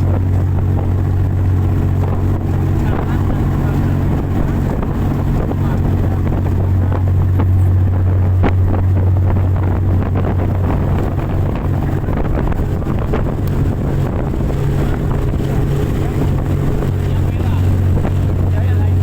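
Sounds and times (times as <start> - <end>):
boat engine droning: 0.0 - 19.0
wind buffeting microphone: 0.0 - 19.0.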